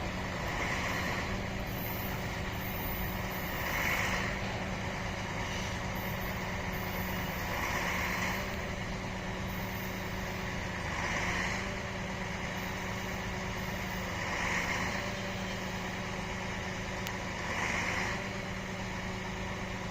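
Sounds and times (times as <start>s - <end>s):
train low hum: 0.0s - 17.6s
rushing noise of passing cars: 0.0s - 19.9s.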